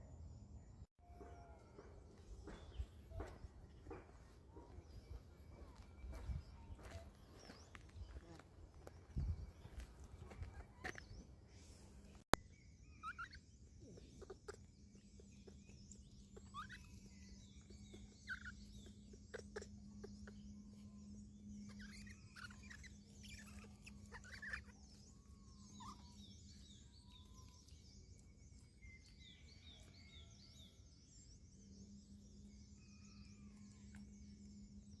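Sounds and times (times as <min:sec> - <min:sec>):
low steady hum: 0:02.0 - 0:35.0
small animals chirping and squeaking: 0:02.4 - 0:31.4.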